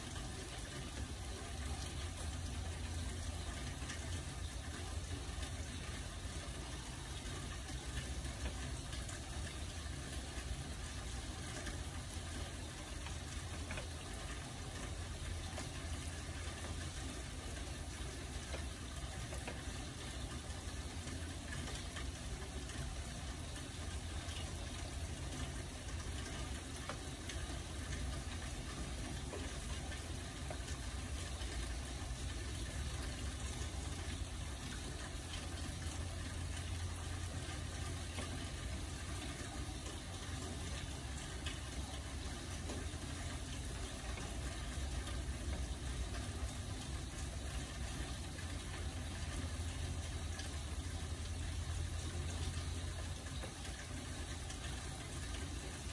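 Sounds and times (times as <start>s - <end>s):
faint ticks of drops: 0.0s - 55.9s
steady rain falling: 0.0s - 55.9s.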